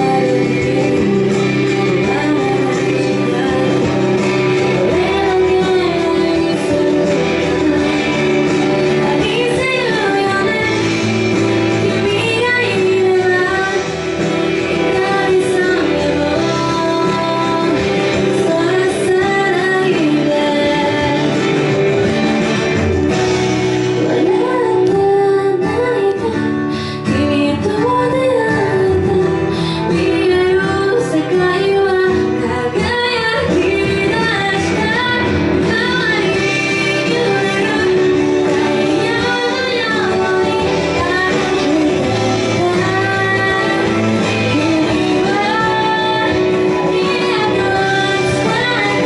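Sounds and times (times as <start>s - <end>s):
instrumental accompaniment: 0.0s - 49.0s
woman singing pop song: 0.0s - 49.0s.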